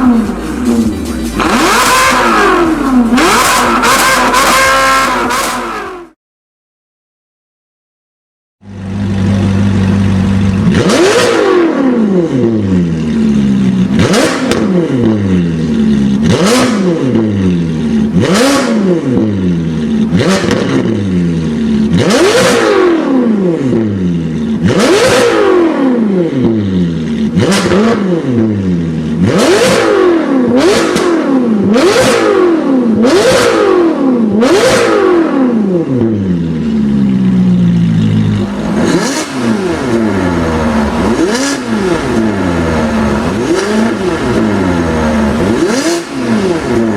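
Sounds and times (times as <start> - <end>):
car engine revving: 0.0 - 6.2, 8.6 - 46.9.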